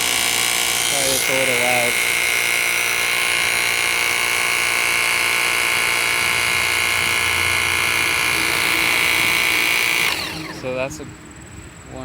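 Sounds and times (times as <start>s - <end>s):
pressure washer pump whining: 0.0s - 11.0s.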